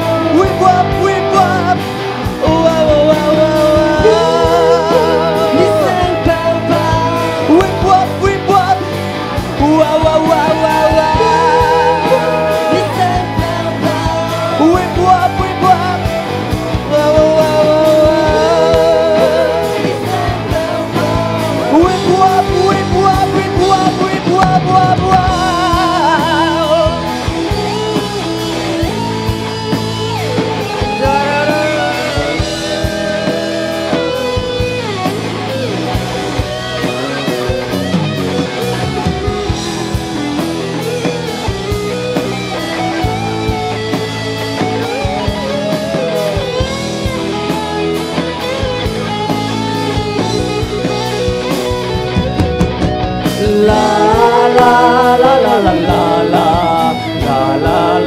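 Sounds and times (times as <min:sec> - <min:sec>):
bass guitar: 0:00.0 - 0:58.0
drums: 0:00.0 - 0:58.0
electric guitar lead with bent notes: 0:00.0 - 0:58.0.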